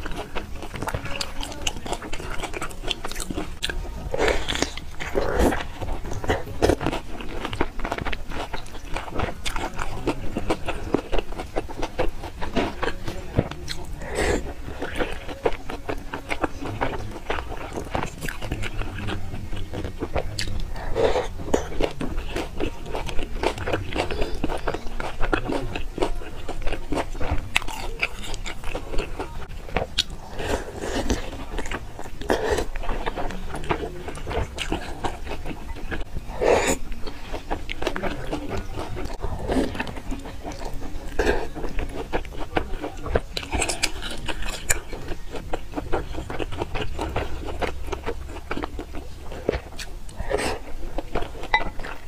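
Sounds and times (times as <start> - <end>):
slurping: 0.0 - 52.0
wet chewing and smacking: 0.0 - 52.0.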